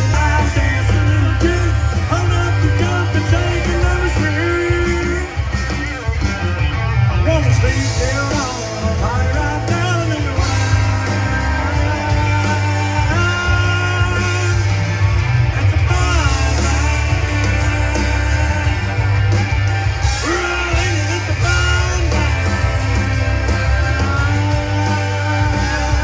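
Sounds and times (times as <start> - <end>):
person singing: 0.0 - 5.9, 7.2 - 26.0
electric guitar: 0.0 - 26.0
heavy bass: 0.0 - 26.0
live country band: 0.0 - 26.0.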